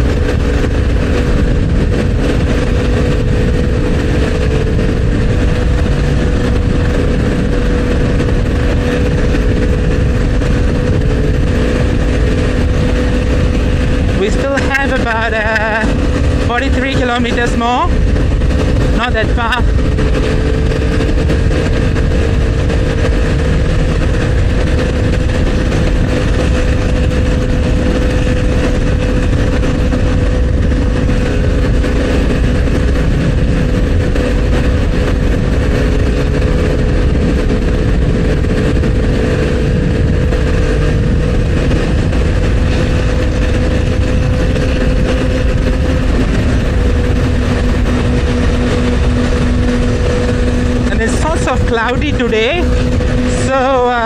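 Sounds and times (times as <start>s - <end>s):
motorcycle engine cruising: 0.0s - 54.0s
wind and road rumble: 0.0s - 54.0s.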